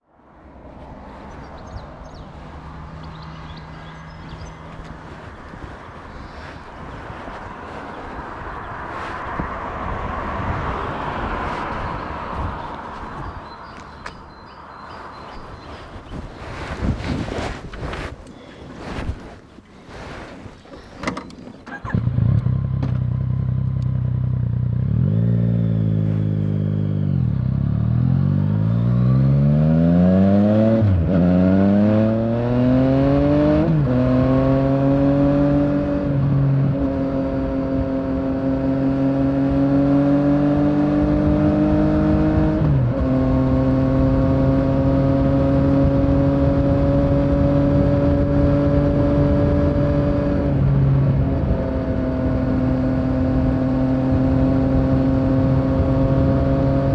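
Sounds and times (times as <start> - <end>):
motorcycle engine accelerating: 1.1 - 19.3, 19.9 - 56.9.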